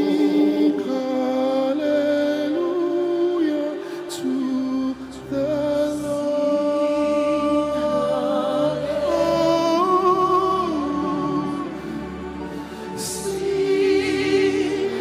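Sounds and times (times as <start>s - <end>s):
low sustained accompaniment: 0.0s - 15.0s
voices singing gospel song: 0.0s - 15.0s.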